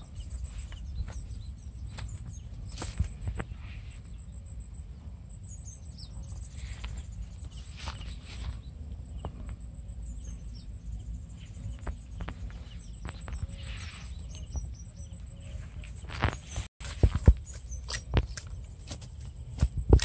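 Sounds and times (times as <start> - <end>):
bird chirps: 0.0 - 19.4
wind rumble on microphone: 0.0 - 20.0.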